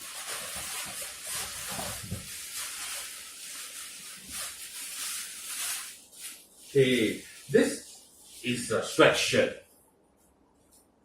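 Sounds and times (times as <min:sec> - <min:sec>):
garment rustling: 0:00.0 - 0:09.0.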